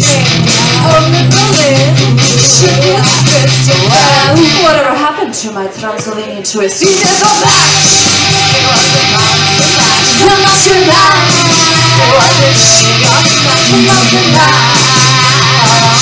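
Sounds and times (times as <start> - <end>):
person singing: 0.0 - 4.7, 6.8 - 16.0
electric guitar: 0.0 - 4.8, 7.1 - 16.0
bass line: 0.0 - 5.0, 6.9 - 16.0.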